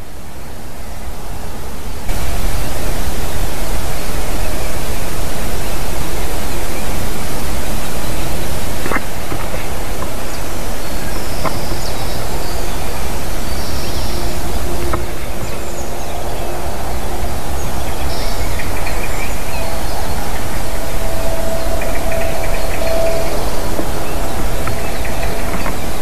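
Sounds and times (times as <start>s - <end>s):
wind rushing with low rumble: 0.1s - 26.0s.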